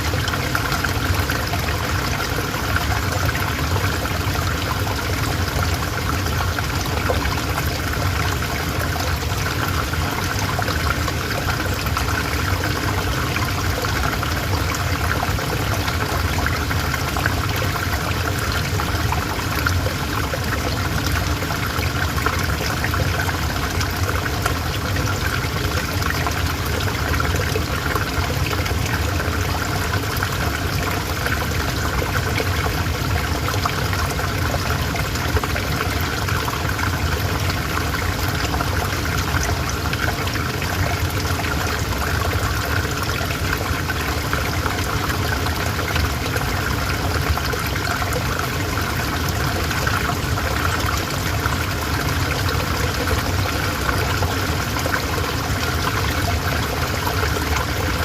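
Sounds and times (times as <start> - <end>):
river water flowing over stones: 0.0 - 58.0.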